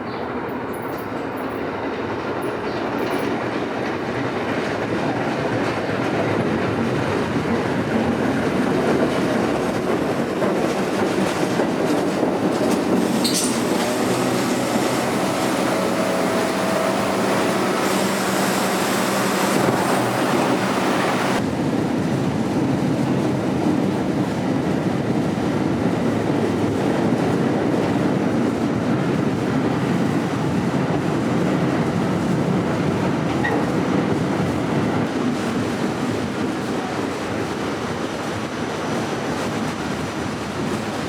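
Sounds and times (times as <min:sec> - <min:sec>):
subway train rumbling on rails: 0:00.0 - 0:41.0
wind: 0:00.0 - 0:41.0.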